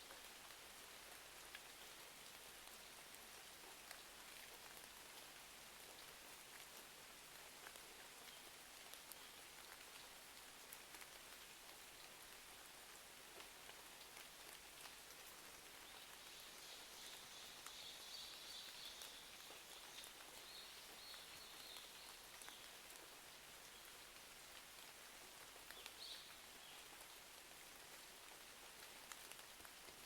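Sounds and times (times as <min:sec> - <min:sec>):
soft rain hiss: 0:00.0 - 0:30.0.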